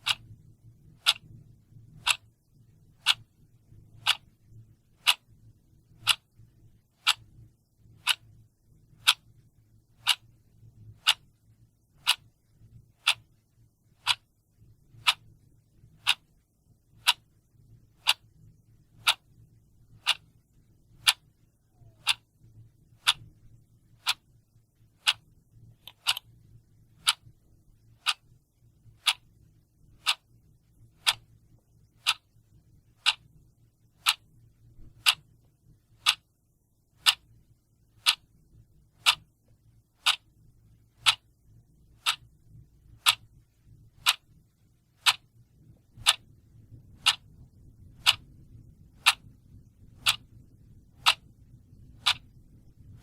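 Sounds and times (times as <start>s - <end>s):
clock ticking: 0.0s - 11.4s, 12.0s - 14.3s, 14.9s - 29.3s, 29.9s - 34.3s, 34.9s - 36.3s, 37.0s - 37.4s, 38.0s - 38.3s, 39.0s - 39.3s, 40.0s - 40.3s, 41.0s - 41.4s, 42.0s - 44.4s, 45.0s - 53.0s.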